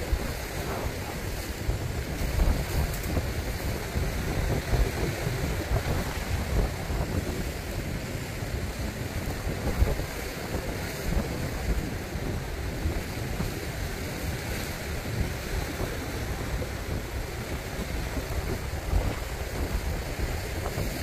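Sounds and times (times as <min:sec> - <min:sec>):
waves breaking on rocks: 0:00.0 - 0:21.0
wind buffeting microphone: 0:00.0 - 0:21.0.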